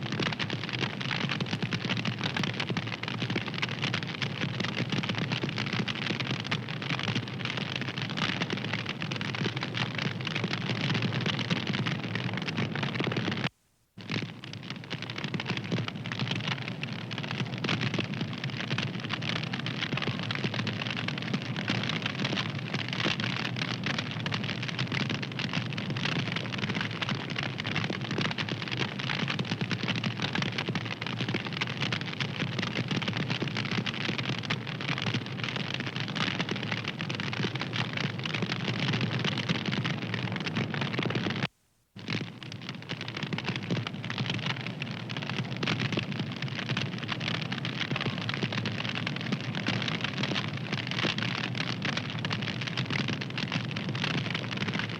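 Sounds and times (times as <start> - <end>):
fire crackling: 5.1 - 54.9.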